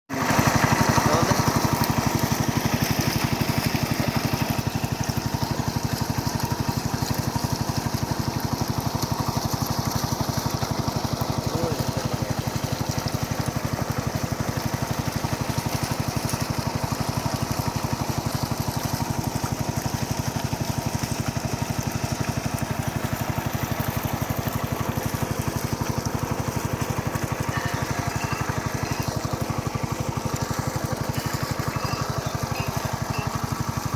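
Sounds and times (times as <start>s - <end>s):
small engine chugging: 0.1s - 33.9s.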